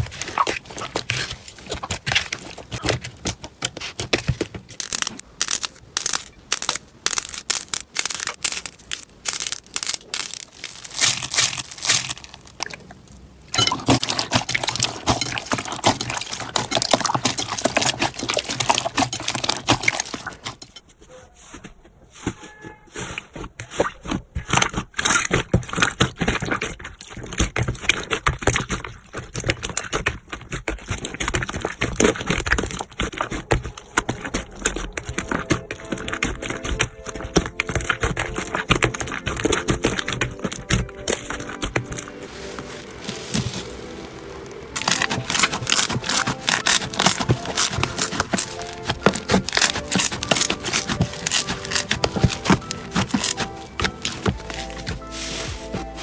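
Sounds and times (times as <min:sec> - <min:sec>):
slime squished by hand: 0:00.0 - 0:20.7, 0:23.0 - 0:56.0.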